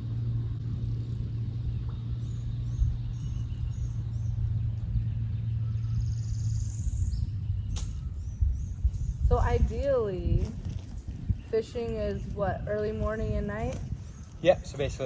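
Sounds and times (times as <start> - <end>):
birds chirping: 0.0 - 15.0
low hum and rumble: 0.0 - 15.0.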